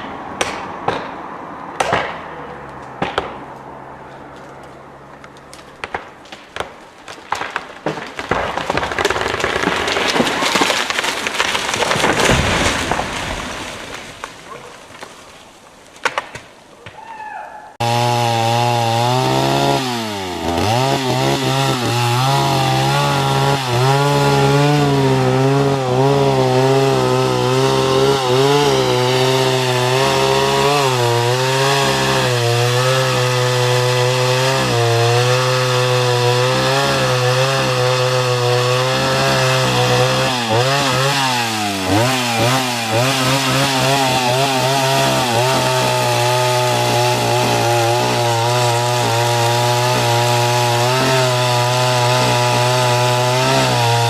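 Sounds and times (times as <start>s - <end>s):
chainsaw cutting wood: 5.2s - 15.1s, 17.8s - 54.0s.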